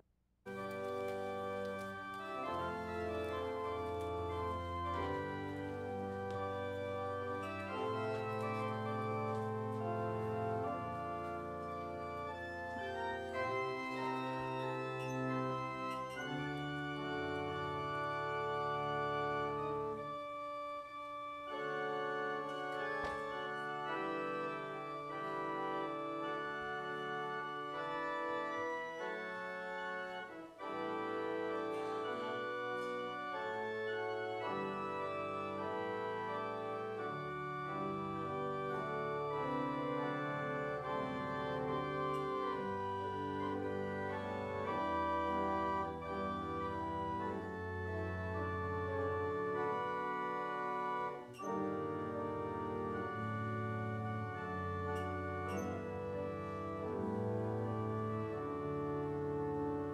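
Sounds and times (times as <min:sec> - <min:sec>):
church organ playing slow chords: 0:00.5 - 0:59.9.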